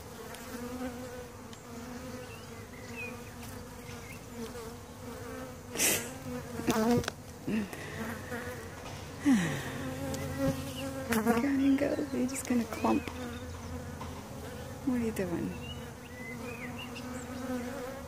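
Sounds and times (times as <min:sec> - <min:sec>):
bee flying past: 0:00.0 - 0:18.0
bees buzzing: 0:00.0 - 0:18.0.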